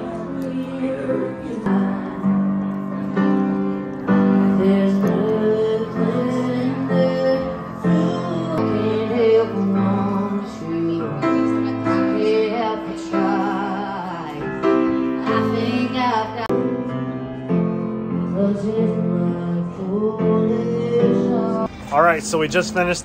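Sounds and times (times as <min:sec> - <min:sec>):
woman singing: 0:00.0 - 0:03.5, 0:04.1 - 0:17.0, 0:18.1 - 0:21.7
piano accompaniment: 0:00.0 - 0:23.0.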